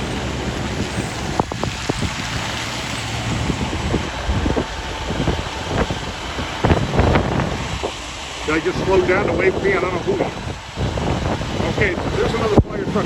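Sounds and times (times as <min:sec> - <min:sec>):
fire truck engine rumbling: 0:00.0 - 0:13.0
wind buffeting microphone: 0:00.0 - 0:13.0.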